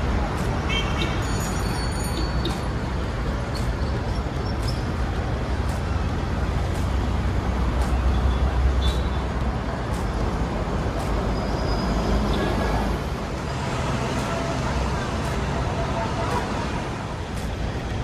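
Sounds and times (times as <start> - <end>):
people's voices: 0.0 - 18.0
rumble of passing vehicles: 0.0 - 18.0.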